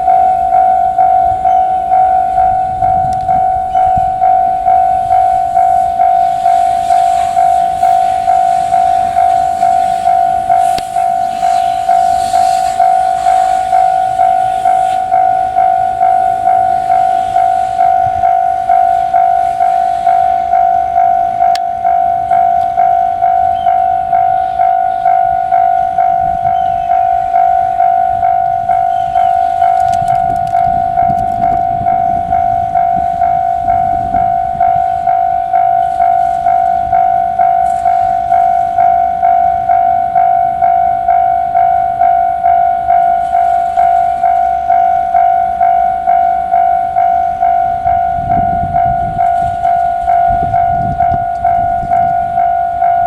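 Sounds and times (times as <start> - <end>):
level crossing bell ringing: 0.0 - 53.0.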